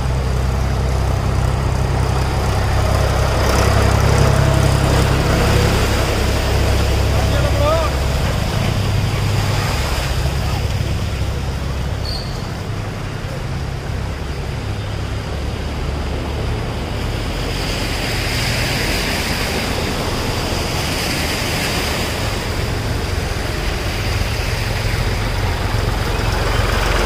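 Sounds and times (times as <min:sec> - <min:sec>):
moving water washing: 0:00.0 - 0:27.0
tractor diesel engine running: 0:00.0 - 0:27.0.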